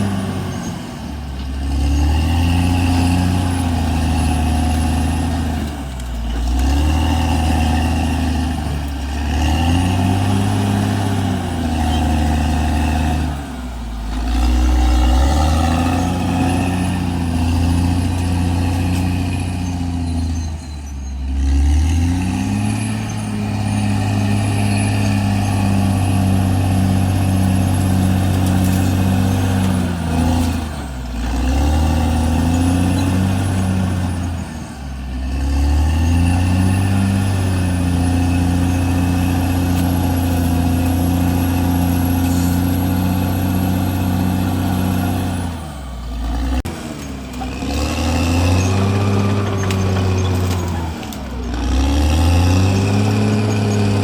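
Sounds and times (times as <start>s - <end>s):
bulldozer diesel engine lugging: 0.0s - 54.0s.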